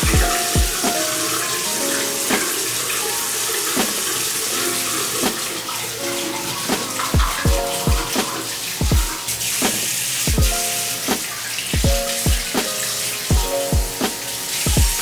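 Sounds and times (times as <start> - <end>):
background music with soft beat: 0.0 - 15.0
tap water running into sink: 0.0 - 15.0.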